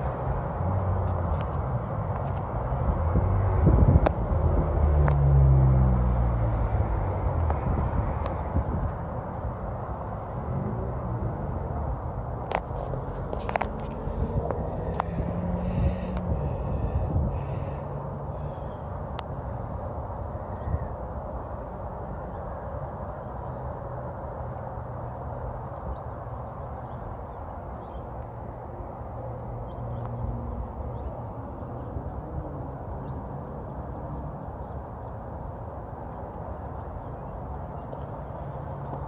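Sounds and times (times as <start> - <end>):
low outdoor rumble: 0.0 - 39.0.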